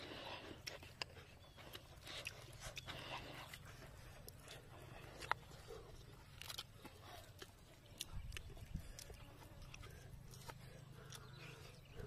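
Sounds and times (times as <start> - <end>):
dry bamboo clicking and cracking: 0.4 - 11.7.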